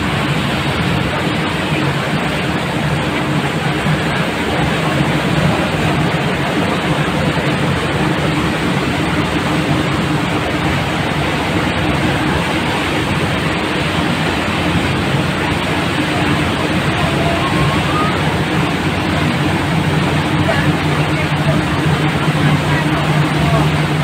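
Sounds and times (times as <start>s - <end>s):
propeller wash rushing: 0.0s - 24.0s
ship engine drone: 0.0s - 24.0s.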